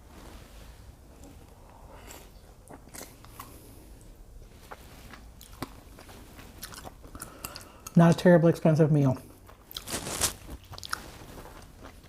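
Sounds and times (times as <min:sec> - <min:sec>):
person chewing food: 0:01.2 - 0:08.3, 0:09.3 - 0:12.0.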